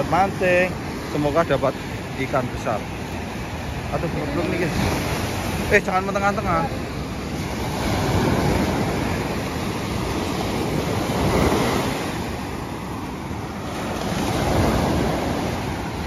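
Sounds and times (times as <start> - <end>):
sea surf breaking on beach: 0.0 - 16.0.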